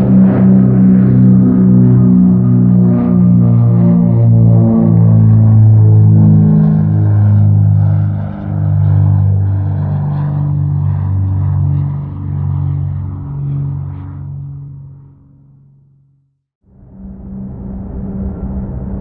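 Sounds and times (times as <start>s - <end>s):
propeller aircraft engine droning: 0.0s - 19.0s.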